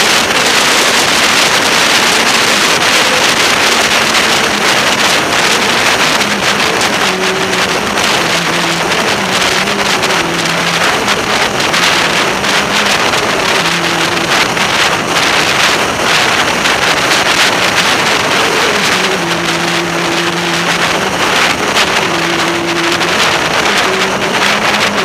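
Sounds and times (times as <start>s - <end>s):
motorcycle engine hum: 0.0s - 25.0s
wind rushing over microphone: 0.0s - 25.0s.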